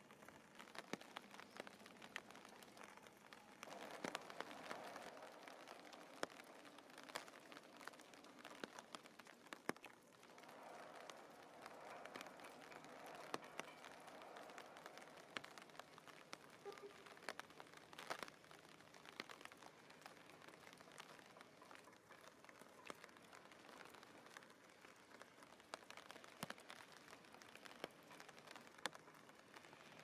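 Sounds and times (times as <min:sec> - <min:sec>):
raindrops tapping: 0:00.0 - 0:30.0.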